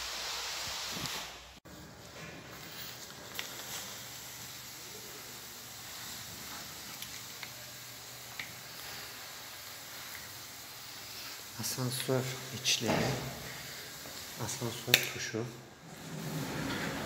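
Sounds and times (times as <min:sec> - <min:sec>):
sprayer hissing: 0:00.0 - 0:01.6, 0:02.4 - 0:17.0.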